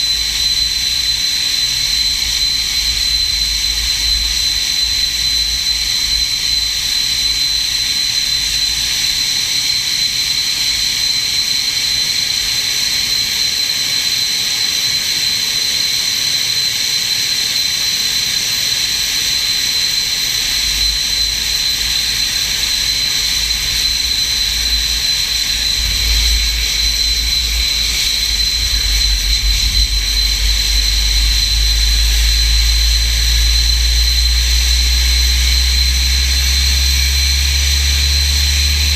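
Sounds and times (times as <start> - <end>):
jet engine whine and rumble: 0.0 - 38.9.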